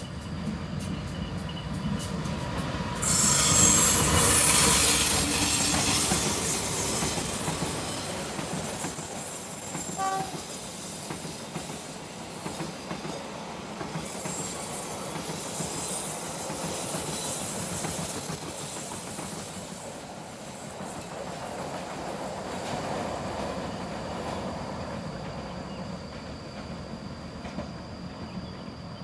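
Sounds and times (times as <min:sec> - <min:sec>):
train wheels on track: 0:00.0 - 0:29.0.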